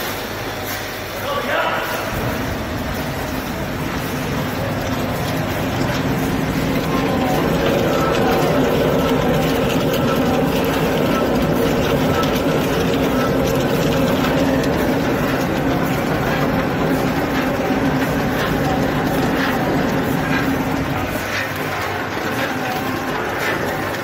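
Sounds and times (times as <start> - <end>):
grains rattling down metal chute: 0.0 - 24.0
machine hum: 0.0 - 24.0.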